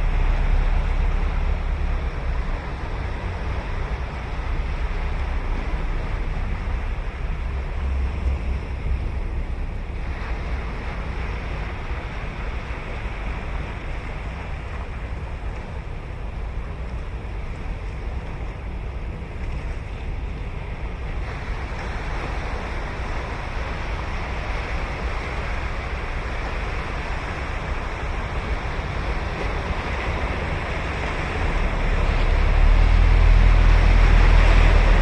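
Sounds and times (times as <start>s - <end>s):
ocean waves breaking on beach: 0.0s - 35.0s
wind rumbling on microphone: 0.0s - 35.0s.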